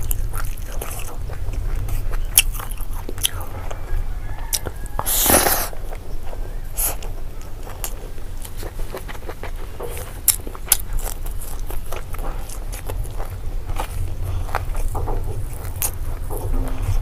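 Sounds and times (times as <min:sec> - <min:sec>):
person chewing food: 0:00.0 - 0:17.0
rustling: 0:00.0 - 0:17.0.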